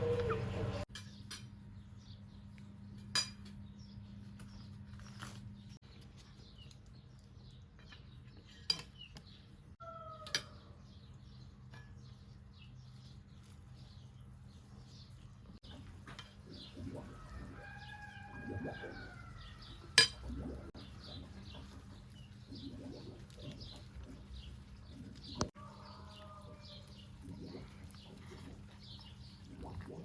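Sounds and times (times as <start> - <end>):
faint birdsong: 0.0 - 30.0.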